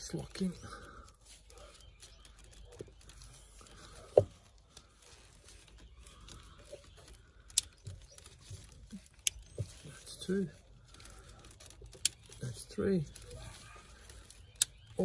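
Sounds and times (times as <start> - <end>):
gloved hands rustling: 0.0 - 15.0.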